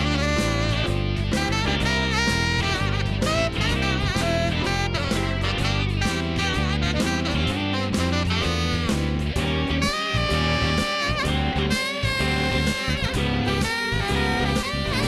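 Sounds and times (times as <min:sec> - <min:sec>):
jazz guitar: 0:00.0 - 0:15.0
stepping bass line: 0:00.0 - 0:15.0
wavering saxophone-like melody: 0:00.0 - 0:15.0.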